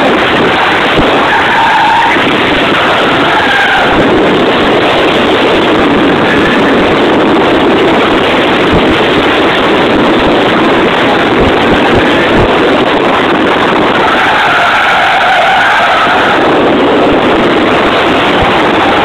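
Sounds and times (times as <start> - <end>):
car engine running hard: 0.0 - 19.0
wind noise: 0.0 - 19.0.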